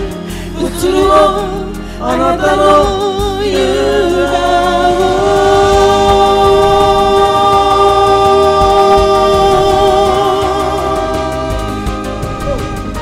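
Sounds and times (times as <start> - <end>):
karaoke voices singing: 0.0 - 13.0
pop ballad backing track: 0.0 - 13.0.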